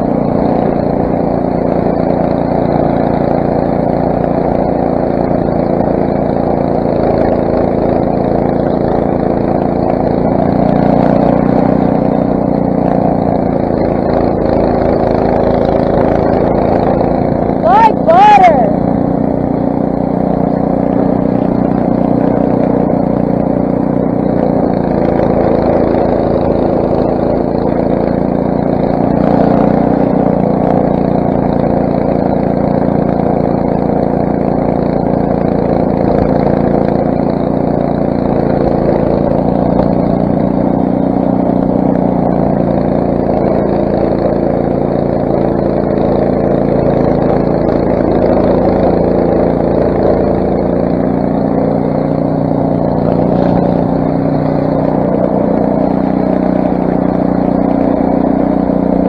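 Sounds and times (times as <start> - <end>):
snowblower engine running: 0.0 - 59.0.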